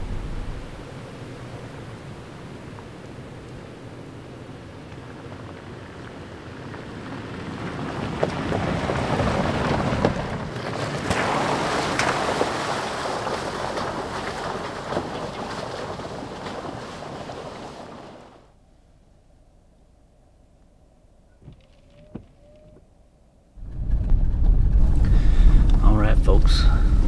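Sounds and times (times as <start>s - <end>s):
tyre and wind noise on dirt road: 0.0s - 27.0s.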